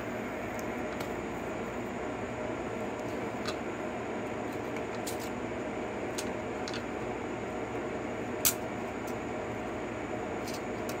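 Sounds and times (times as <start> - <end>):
fan-like hum: 0.0 - 11.0.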